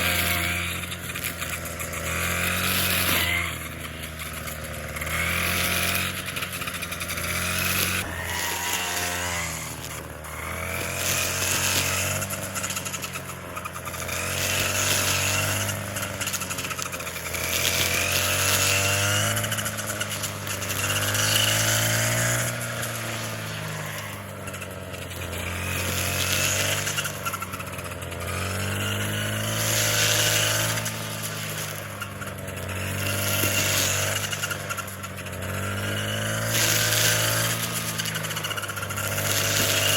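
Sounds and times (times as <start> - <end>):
small engine-powered tool running: 0.0 - 39.9.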